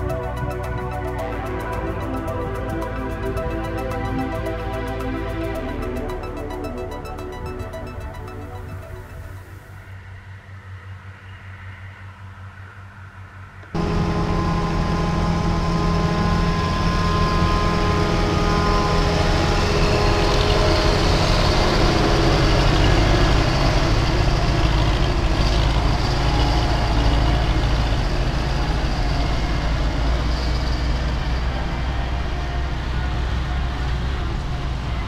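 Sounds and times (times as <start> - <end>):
heavy diesel engines driving past: 0.0 - 35.0.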